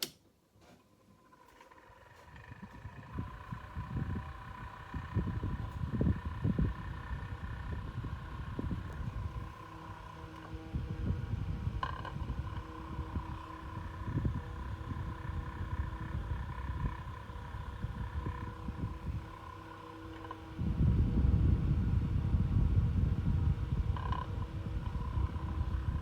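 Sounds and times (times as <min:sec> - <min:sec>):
desk fan motor whine: 0:01.0 - 0:26.0.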